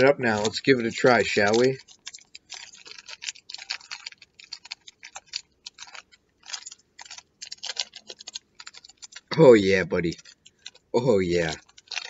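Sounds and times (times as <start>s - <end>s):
foil packet crinkling and tearing: 0.0s - 12.0s.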